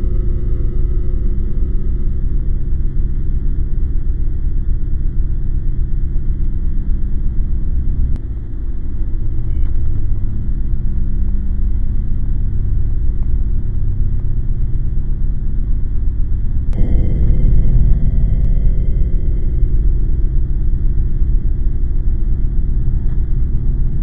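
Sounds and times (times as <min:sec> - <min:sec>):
deep rumbling drone: 0:00.0 - 0:24.0.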